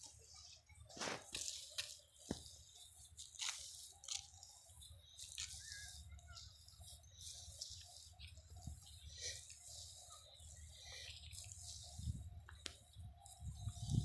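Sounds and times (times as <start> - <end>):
granules crunching and rustling: 0.8 - 12.9.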